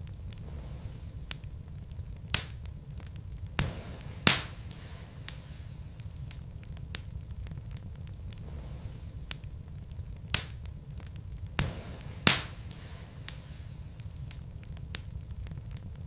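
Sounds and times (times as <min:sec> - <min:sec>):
fire crackling: 0:00.0 - 0:16.0
fire rumbling: 0:00.0 - 0:16.0
logs popping: 0:00.0 - 0:16.0.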